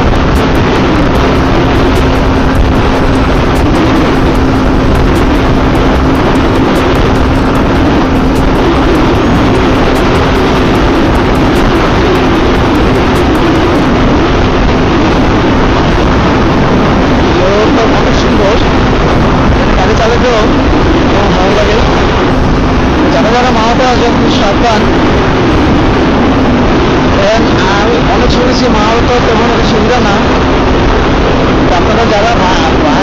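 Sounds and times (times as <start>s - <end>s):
motorcycle engine running: 0.0s - 26.7s
wind rush and road noise: 0.0s - 33.0s.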